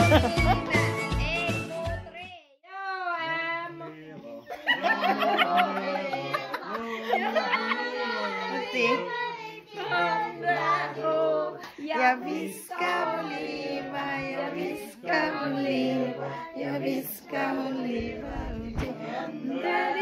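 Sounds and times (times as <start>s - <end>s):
children and adults singing: 0.0s - 20.0s.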